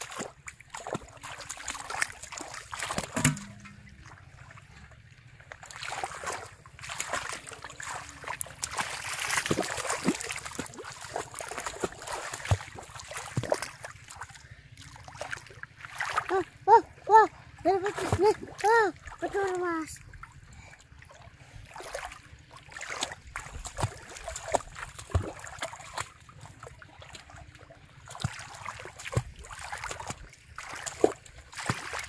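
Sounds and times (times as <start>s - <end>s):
muddy water splashing: 0.0s - 32.0s.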